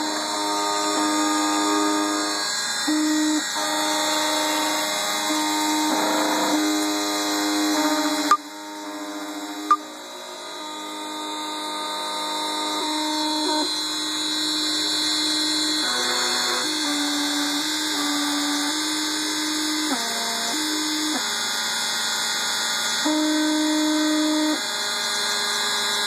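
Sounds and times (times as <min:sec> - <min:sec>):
key-cutting machine motor whine: 0:00.0 - 0:26.0.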